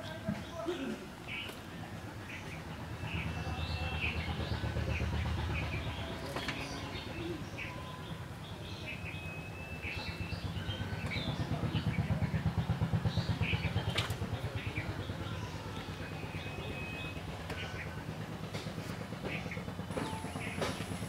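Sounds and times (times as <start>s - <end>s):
small birds chirping: 0.0s - 21.0s
low pulsing motor hum: 0.1s - 21.0s.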